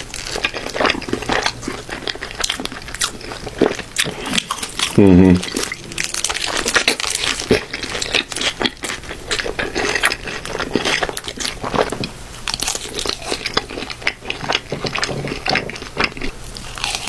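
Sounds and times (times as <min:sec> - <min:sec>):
crunchy bites and chewing: 0:00.0 - 0:17.0.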